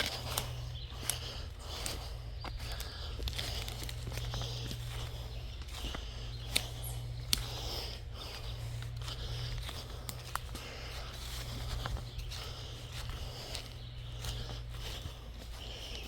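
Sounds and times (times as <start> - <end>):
footsteps through leaf litter: 0.0 - 16.0
twigs snapping: 0.0 - 16.0.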